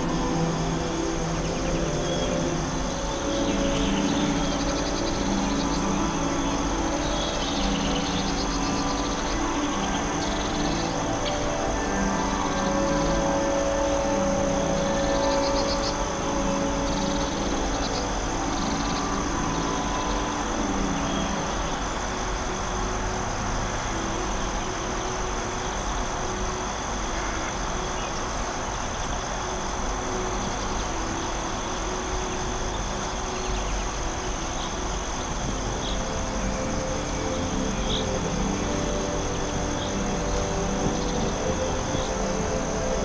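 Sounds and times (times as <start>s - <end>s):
high insect trill: 0.0s - 43.0s.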